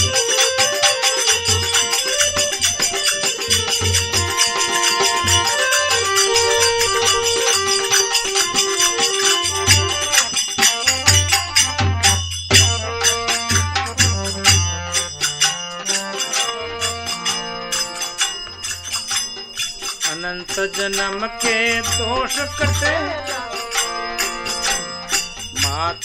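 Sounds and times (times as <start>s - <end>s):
folk melody line: 0.0s - 25.9s
jingling hand percussion: 0.0s - 26.0s.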